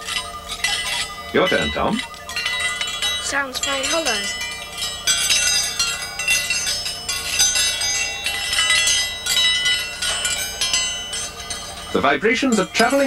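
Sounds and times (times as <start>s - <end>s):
metal spoons ringing like bells: 0.0s - 13.0s.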